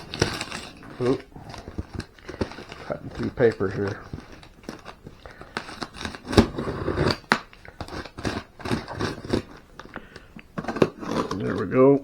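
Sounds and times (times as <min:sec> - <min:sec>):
paper packaging being cut: 0:00.0 - 0:11.9.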